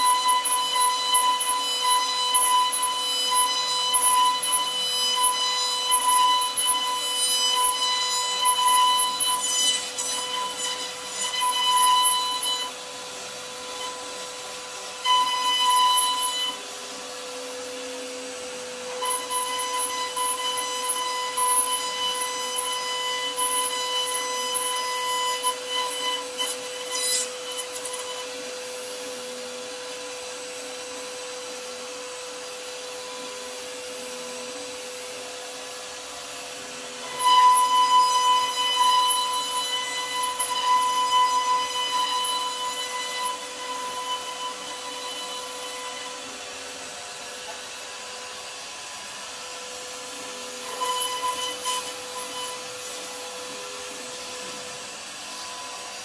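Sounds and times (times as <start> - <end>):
router bit carving wood: 0.0 - 56.0
router spindle whining: 0.0 - 56.0.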